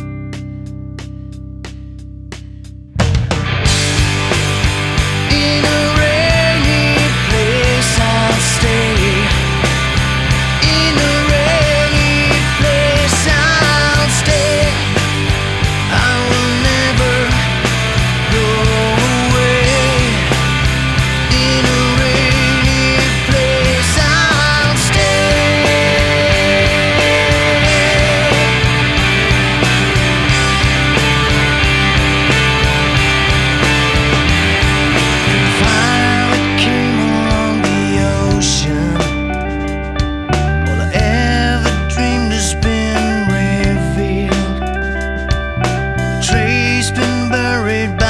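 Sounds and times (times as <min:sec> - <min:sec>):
loud rock music: 0:00.0 - 0:48.0.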